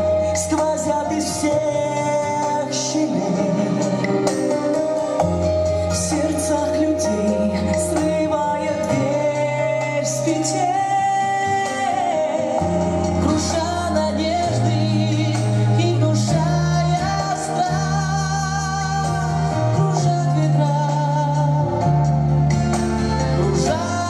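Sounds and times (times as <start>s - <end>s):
instrumental accompaniment: 0.0s - 24.0s.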